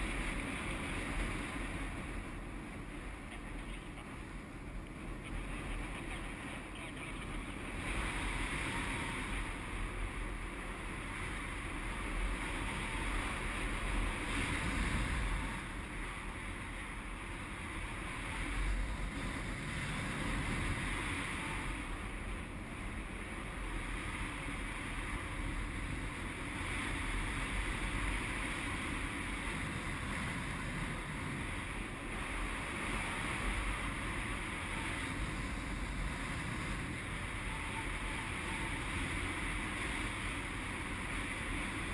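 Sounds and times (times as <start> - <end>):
low wind rumble: 0.0 - 41.9
wind hiss on microphone: 0.0 - 41.9.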